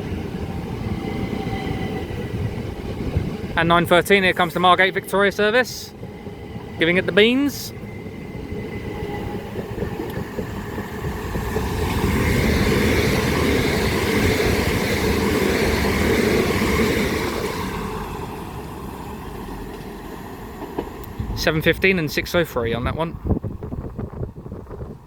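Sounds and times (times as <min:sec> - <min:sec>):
electric train passing at speed: 0:00.0 - 0:25.0.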